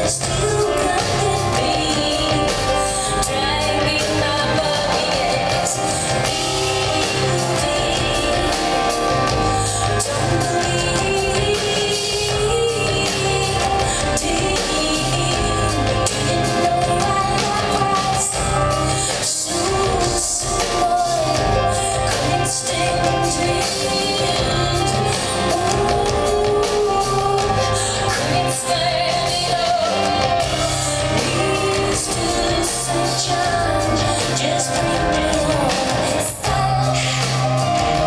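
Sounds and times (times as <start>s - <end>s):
live band music: 0.0s - 38.0s
woman singing: 0.0s - 38.0s.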